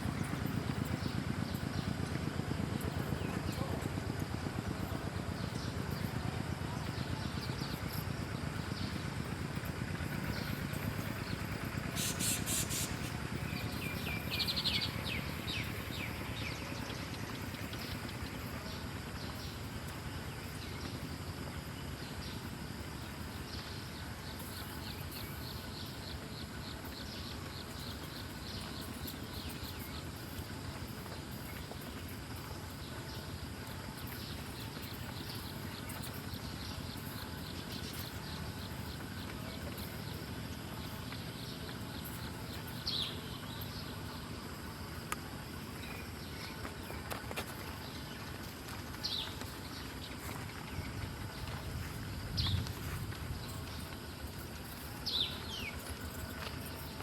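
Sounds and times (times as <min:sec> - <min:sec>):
birds chirping: 0:00.0 - 0:57.0
outdoor background noise: 0:00.0 - 0:57.0.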